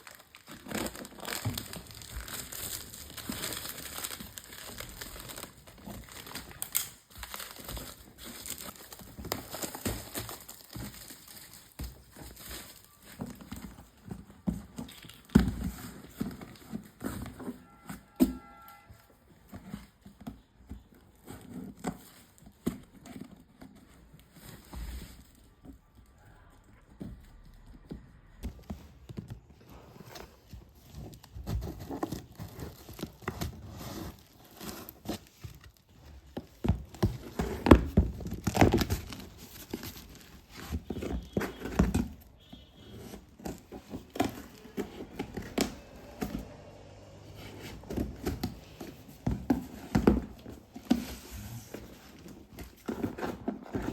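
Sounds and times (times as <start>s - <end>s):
packaging rustling and crinkling: 0.0s - 53.9s.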